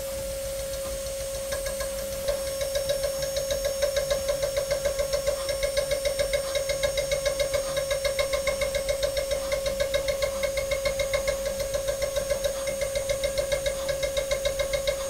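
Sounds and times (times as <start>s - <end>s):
engraving spindle pulsing whine: 0.0s - 15.0s.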